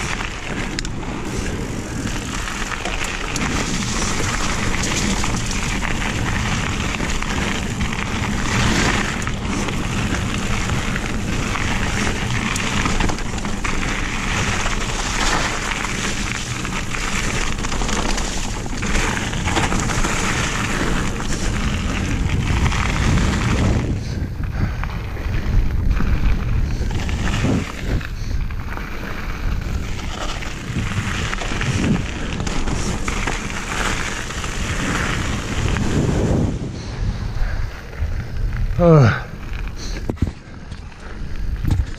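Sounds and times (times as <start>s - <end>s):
bike rattling over bumps: 0.0s - 41.9s
tyres rolling over gravel: 0.0s - 41.9s
wind buffeting microphone: 0.0s - 41.9s.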